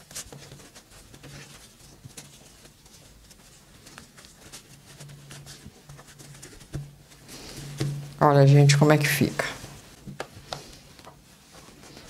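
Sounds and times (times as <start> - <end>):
fabric rustling: 0.0 - 12.0.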